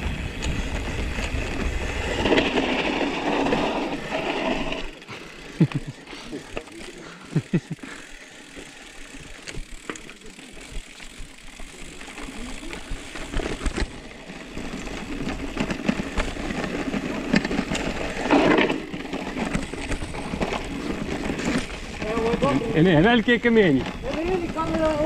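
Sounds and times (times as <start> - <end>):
bike frame rattling: 0.0 - 25.0
bike tyres on dirt: 0.0 - 25.0.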